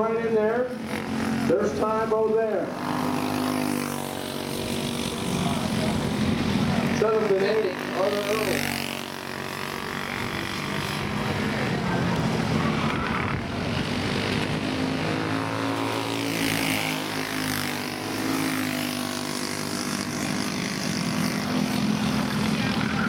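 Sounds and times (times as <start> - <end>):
racing kart engines passing: 0.0 - 23.0.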